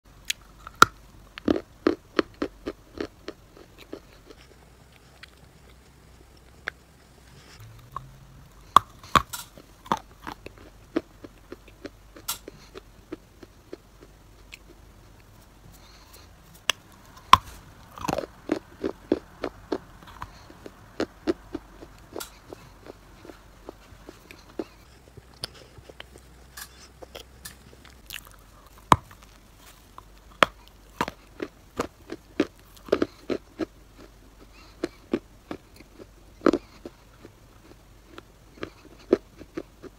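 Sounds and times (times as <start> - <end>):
chewing crunchy clay: 0.2 - 39.9.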